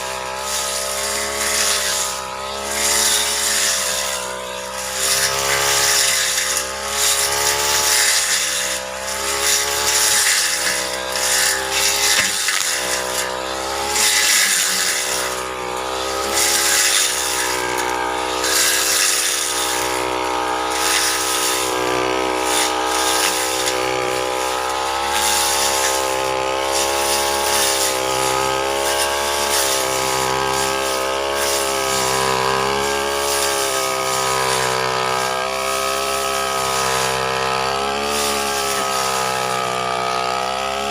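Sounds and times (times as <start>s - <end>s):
blade cutting vegetation: 0.0s - 40.9s
brush cutter engine running: 0.0s - 40.9s.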